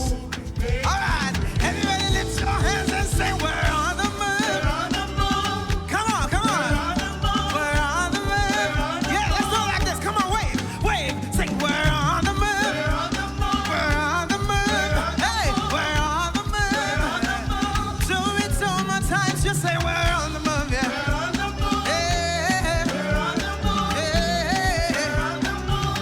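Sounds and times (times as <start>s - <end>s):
upbeat worship band music: 0.0s - 26.0s.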